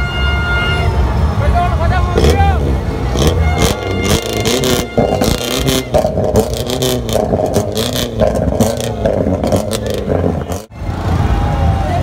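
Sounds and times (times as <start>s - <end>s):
vehicle engines revving: 0.9s - 12.0s.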